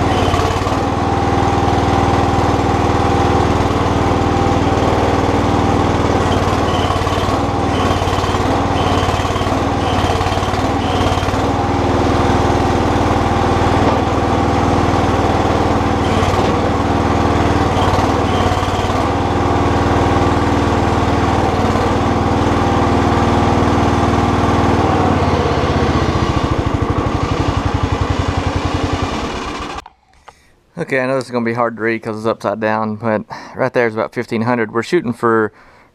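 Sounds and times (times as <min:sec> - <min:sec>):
backhoe engine running: 0:00.0 - 0:29.9.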